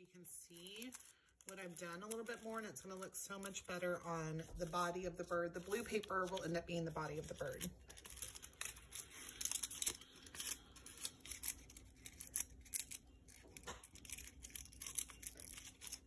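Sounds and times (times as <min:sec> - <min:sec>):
paper rustling and crinkling: 0:00.4 - 0:16.0.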